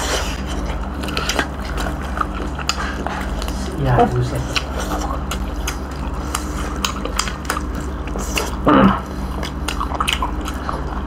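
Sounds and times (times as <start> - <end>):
chewing and biting food: 0.0 - 11.0
steady low hum: 0.0 - 11.0.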